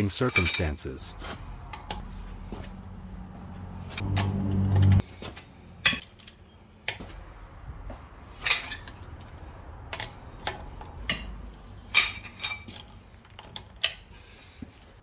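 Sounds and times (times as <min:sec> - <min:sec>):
metal tools clinking: 0:00.0 - 0:02.8, 0:03.5 - 0:14.9
low steady hum: 0:01.5 - 0:14.1.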